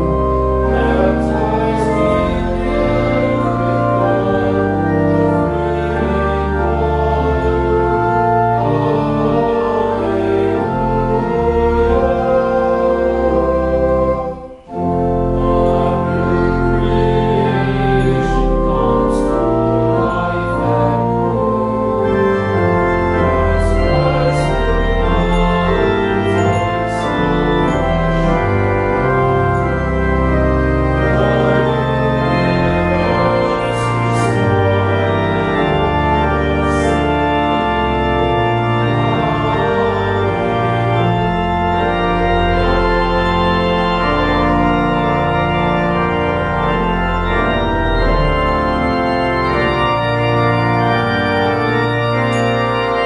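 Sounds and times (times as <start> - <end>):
church organ playing chords: 0.0 - 53.0.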